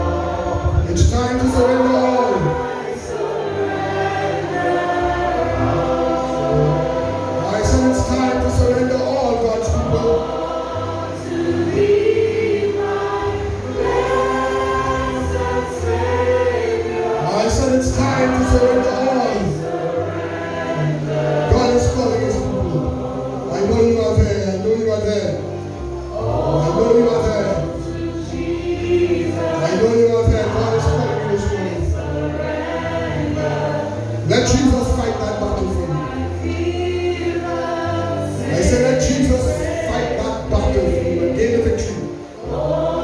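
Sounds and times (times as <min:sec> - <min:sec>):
choir singing a gospel hymn: 0:00.0 - 0:43.0
low bass accompaniment: 0:00.0 - 0:43.0.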